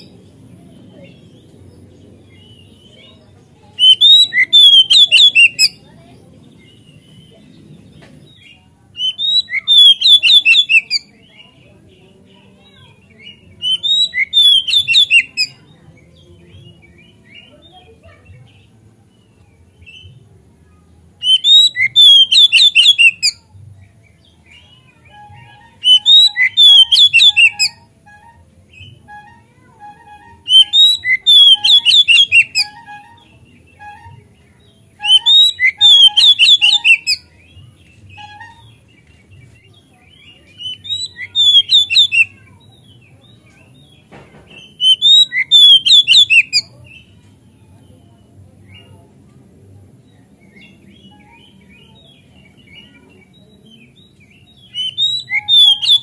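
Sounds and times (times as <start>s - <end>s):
bird singing whistled notes: 2.2s - 7.6s, 8.3s - 18.7s, 21.2s - 23.5s, 24.1s - 44.0s, 44.6s - 47.2s, 50.4s - 56.0s.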